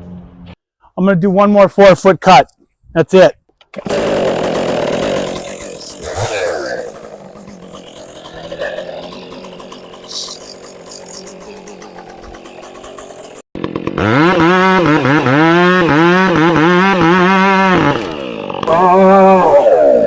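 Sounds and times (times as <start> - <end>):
chainsaw cutting log: 3.6 - 20.0.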